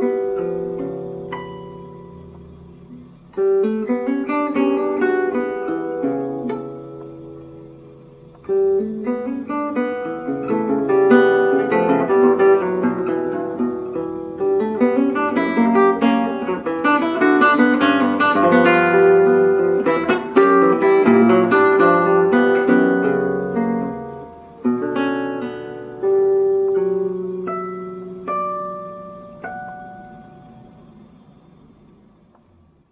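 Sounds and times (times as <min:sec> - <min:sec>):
acoustic guitar playing fast: 0:00.0 - 0:32.3.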